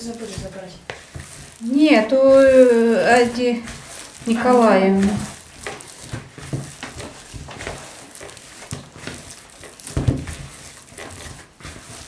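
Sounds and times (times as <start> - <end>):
dough kneaded by hand: 0.0 - 12.0.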